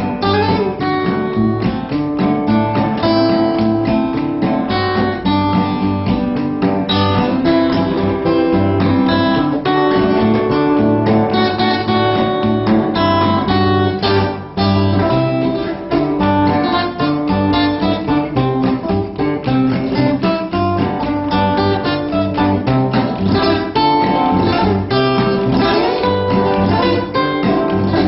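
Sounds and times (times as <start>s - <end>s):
acoustic guitar music: 0.0s - 28.0s
steady bass line: 0.0s - 28.0s.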